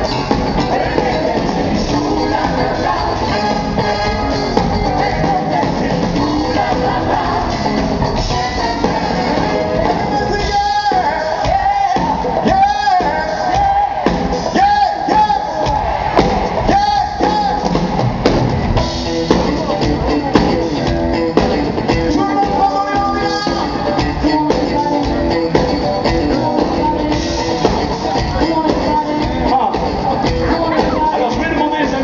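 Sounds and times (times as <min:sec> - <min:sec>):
live soul band playing: 0:00.0 - 0:32.0.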